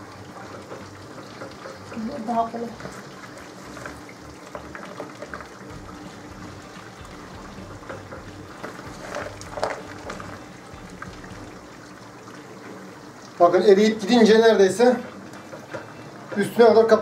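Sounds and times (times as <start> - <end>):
melting fat bubbling and crackling: 0.0 - 17.0.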